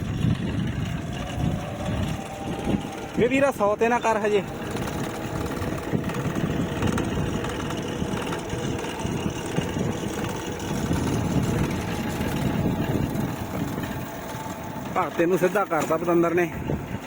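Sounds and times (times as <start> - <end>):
toy tractor engine running: 0.0 - 17.0.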